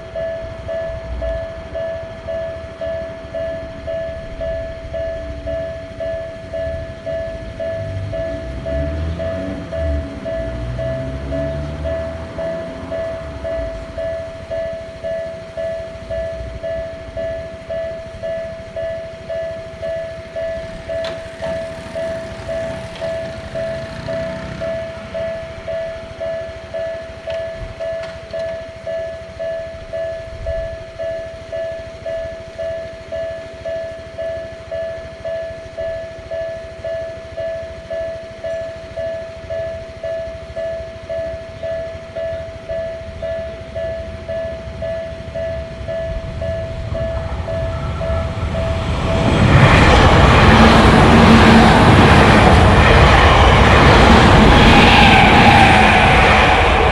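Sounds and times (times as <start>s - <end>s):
passing train rumble: 0.0s - 56.9s
railroad crossing bell ringing: 0.0s - 56.9s.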